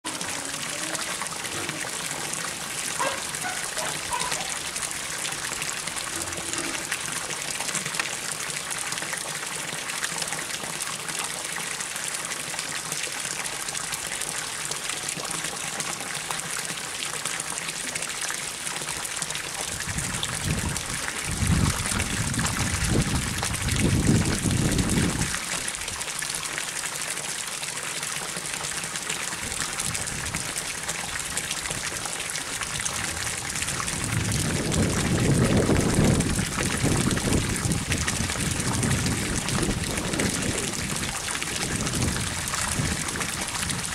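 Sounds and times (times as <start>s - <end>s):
water pouring into a pond: 0.0s - 43.9s.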